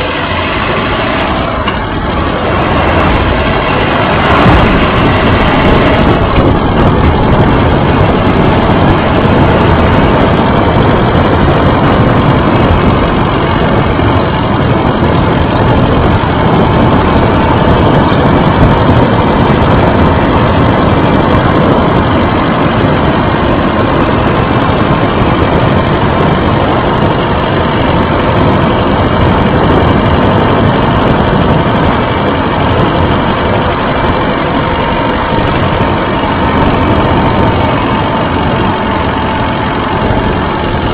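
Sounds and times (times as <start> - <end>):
bicycle tyre and road rumble: 0.0 - 40.9.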